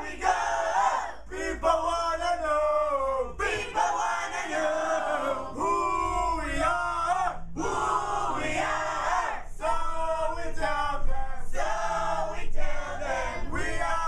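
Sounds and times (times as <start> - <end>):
teenagers singing and chanting: 0.0 - 14.0.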